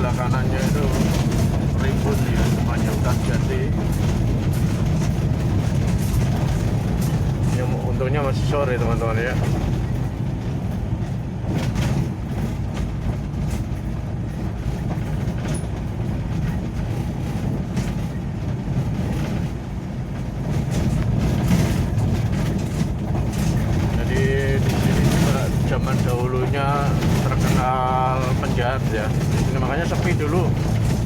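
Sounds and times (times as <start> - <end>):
vehicle engine and road rumble: 0.0 - 31.0.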